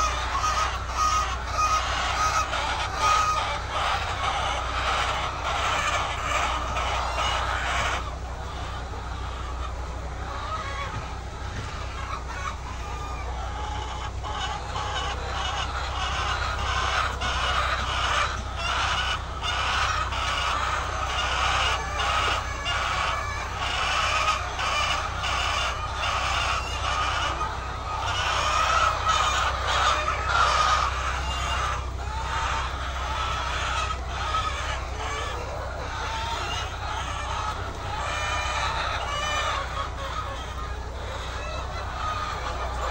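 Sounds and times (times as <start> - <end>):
hens clucking: 0.0 - 42.9.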